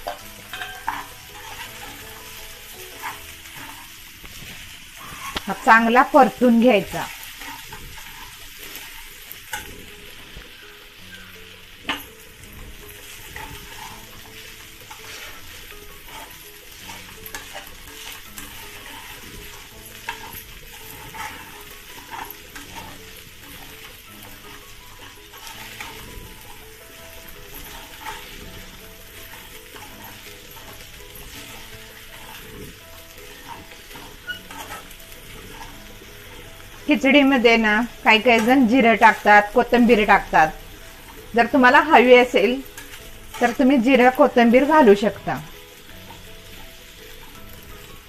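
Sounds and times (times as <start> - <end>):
food sizzling in a pan: 0.0 - 48.0
metal spatula scraping a pan: 0.0 - 48.0.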